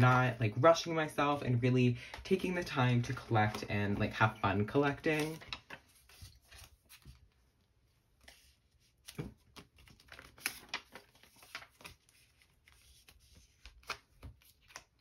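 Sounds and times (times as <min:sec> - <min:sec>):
card rustling against plastic: 0:00.0 - 0:07.4, 0:08.2 - 0:15.0.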